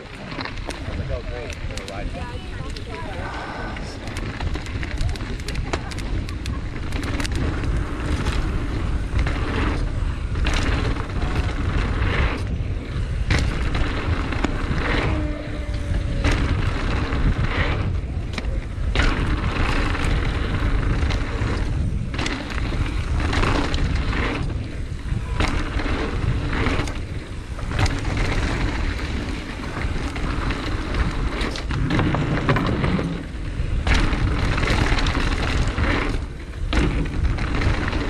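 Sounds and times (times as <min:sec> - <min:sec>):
bike clattering over bumps: 0:00.0 - 0:03.2, 0:03.8 - 0:38.0
tyres rolling over dirt: 0:00.0 - 0:38.0
wind noise on microphone: 0:00.0 - 0:38.0.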